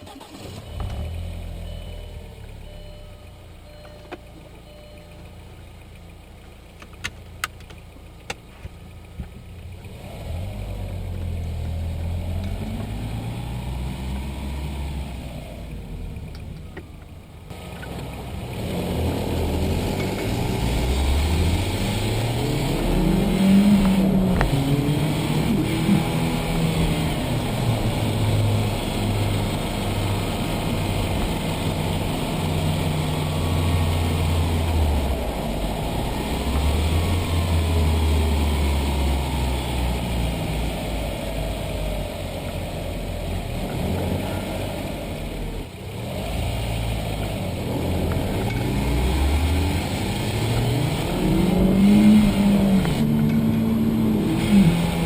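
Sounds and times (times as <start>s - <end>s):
car engine revving while driving: 0.0s - 5.2s, 5.9s - 55.0s.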